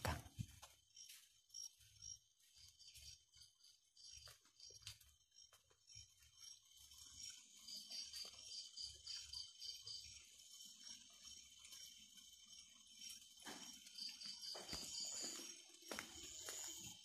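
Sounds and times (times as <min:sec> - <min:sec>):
crickets chirping: 0:00.0 - 0:17.0
high-pitched insect drone: 0:00.9 - 0:17.0.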